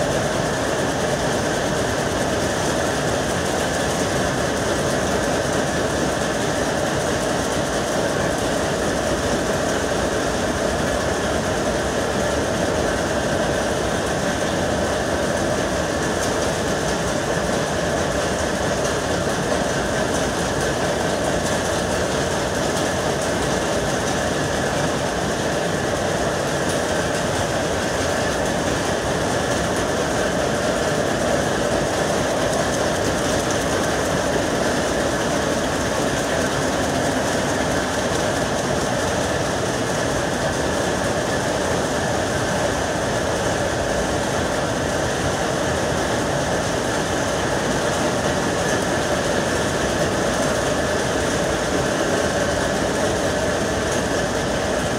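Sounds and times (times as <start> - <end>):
power looms clattering: 0.0 - 54.9.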